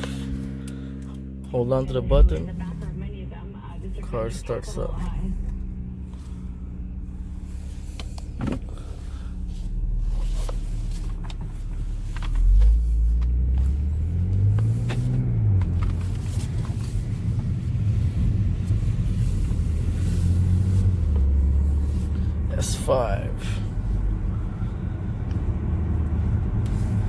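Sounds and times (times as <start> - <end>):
car engine idling: 0.0 - 27.0
engine revving: 0.0 - 27.0.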